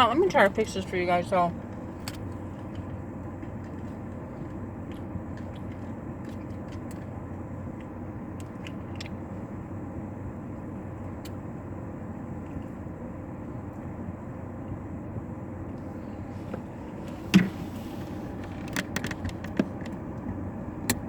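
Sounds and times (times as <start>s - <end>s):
low hum inside car: 0.0s - 21.0s.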